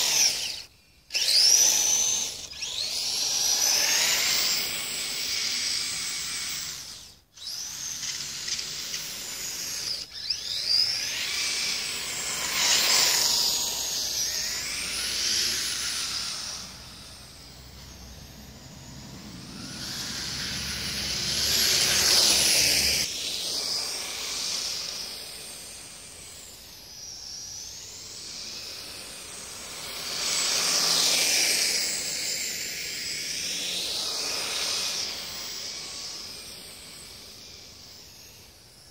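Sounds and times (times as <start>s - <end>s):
rc vehicle electric motors whining: 0.0s - 38.9s.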